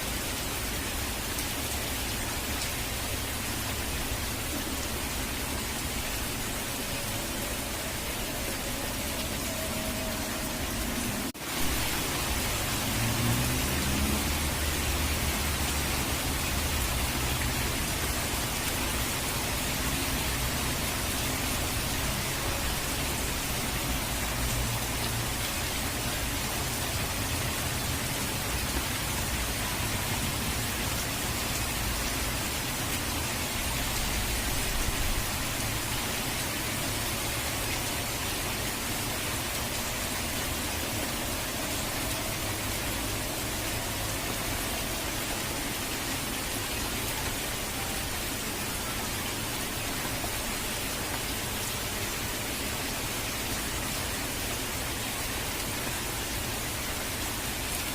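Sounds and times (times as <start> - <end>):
heavily falling water hiss: 0.0 - 57.9.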